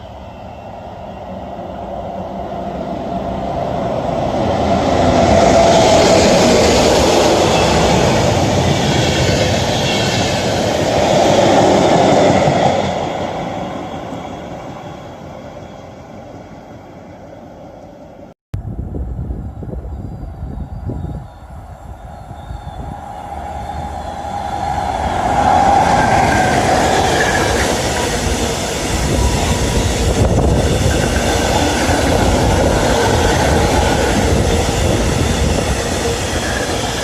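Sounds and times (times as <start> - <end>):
train passing by: 0.0 - 37.0.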